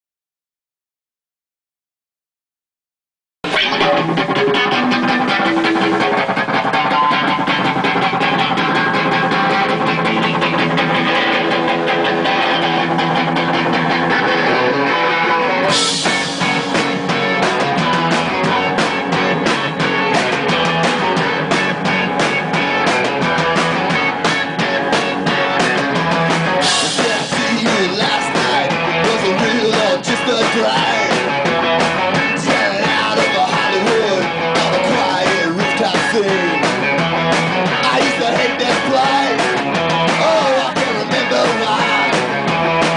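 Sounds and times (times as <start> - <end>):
electric guitars: 3.4 - 42.9
rock band playing: 3.4 - 42.9.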